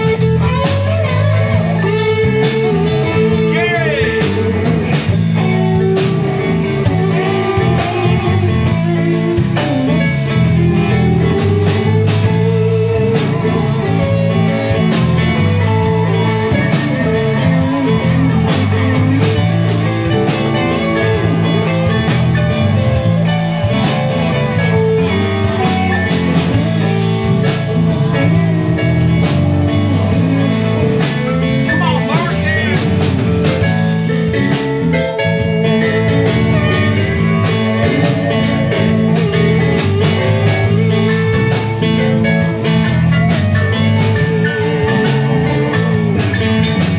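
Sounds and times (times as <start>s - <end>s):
drum kit steady beat: 0.0s - 46.9s
electric bass: 0.0s - 46.9s
electric guitars: 0.0s - 46.9s.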